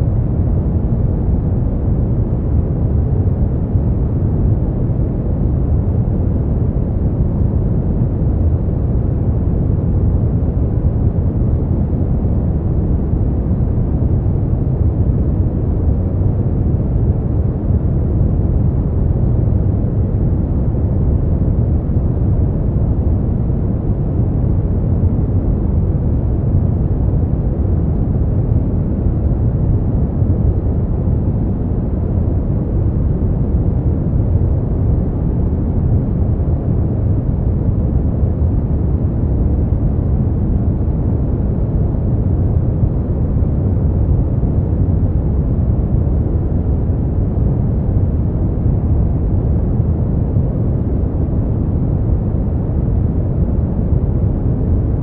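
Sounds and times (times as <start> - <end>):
deep steady brown noise: 0.0 - 55.0.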